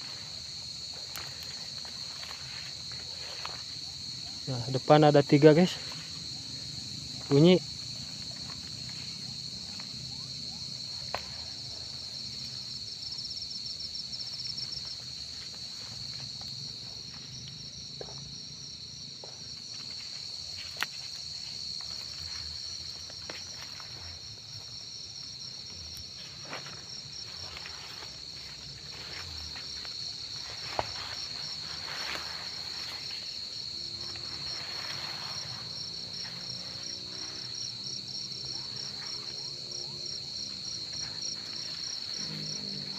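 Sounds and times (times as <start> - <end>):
footsteps rustling through vegetation: 0.0 - 4.5, 5.7 - 18.0, 19.4 - 42.9
cricket steady high trill: 0.0 - 42.9.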